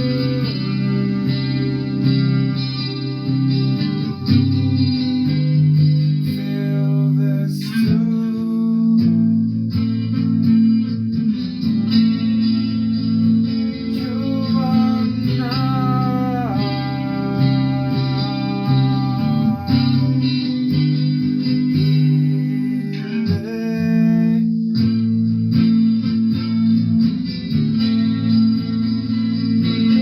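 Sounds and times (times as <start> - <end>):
guitar chords and picked notes: 0.0 - 30.0.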